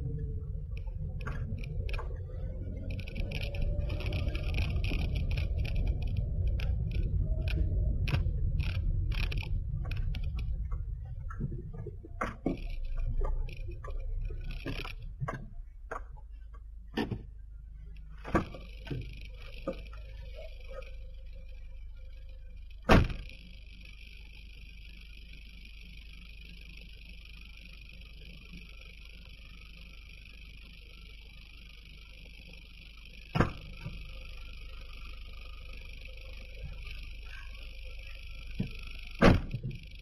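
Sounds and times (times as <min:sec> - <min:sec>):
road and engine rumble: 0:00.0 - 0:40.0.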